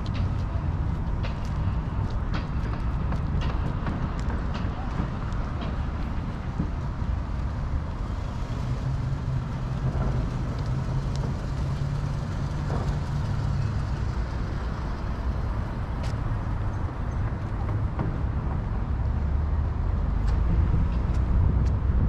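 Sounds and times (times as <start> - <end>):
street rumble: 0.0 - 22.0
vehicle engine humming: 0.0 - 22.0.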